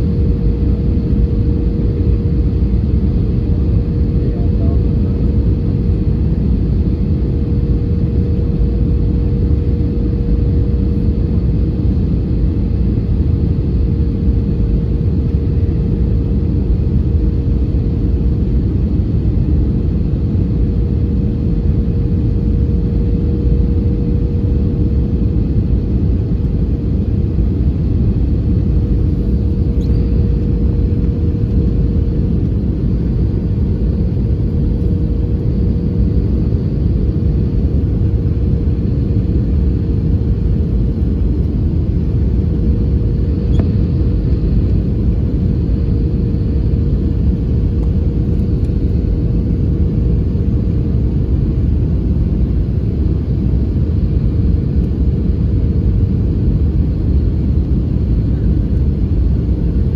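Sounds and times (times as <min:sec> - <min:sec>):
airliner cabin rumble: 0:00.0 - 0:59.9
constant mid-pitched hum: 0:00.0 - 0:59.9.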